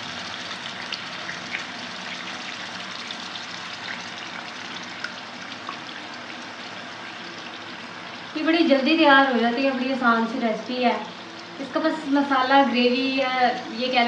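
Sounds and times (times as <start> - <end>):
liver sizzling in hot oil: 0.0 - 12.4.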